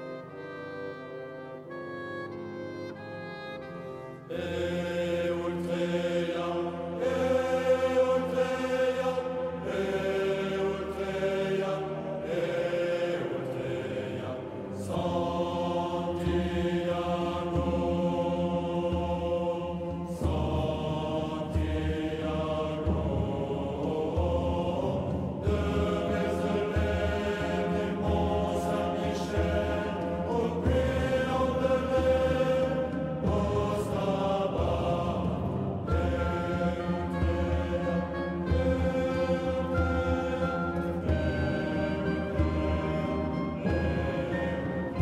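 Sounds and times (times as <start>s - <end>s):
voices singing slow chant: 0.0s - 45.0s.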